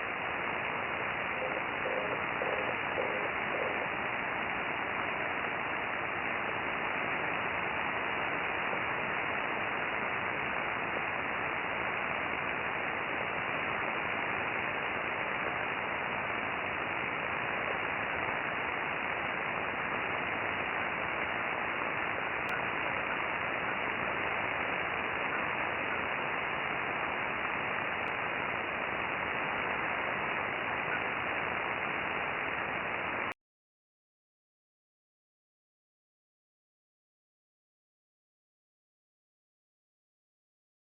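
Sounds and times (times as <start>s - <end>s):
radio static hiss: 0.0s - 33.4s.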